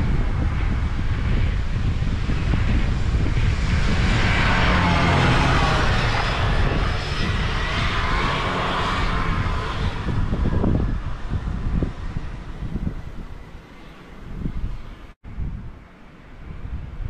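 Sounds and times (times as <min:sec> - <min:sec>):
snowmobile engine whine passing: 0:00.0 - 0:15.2
wind rumbling on microphone: 0:00.0 - 0:17.0.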